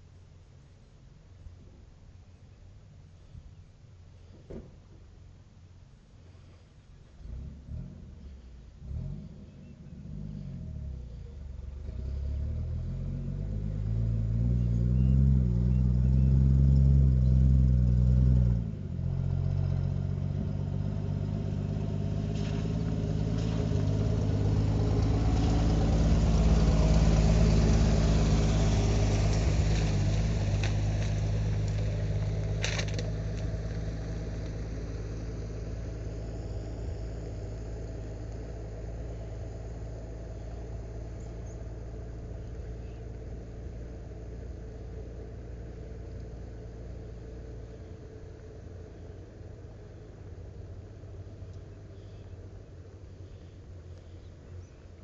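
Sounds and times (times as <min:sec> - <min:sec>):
engine rumble: 0:00.0 - 0:55.0
vehicle engine running: 0:00.0 - 0:55.0.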